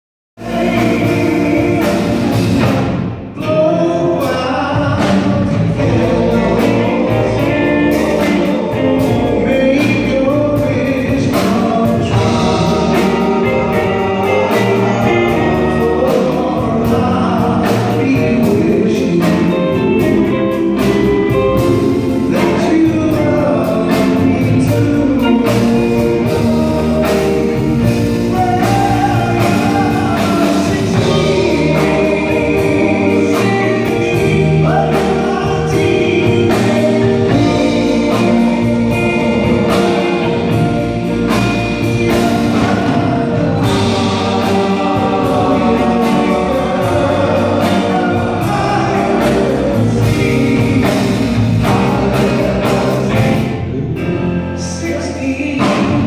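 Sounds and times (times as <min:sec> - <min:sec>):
live band playing: 0:00.4 - 0:56.0
men singing: 0:00.4 - 0:56.0.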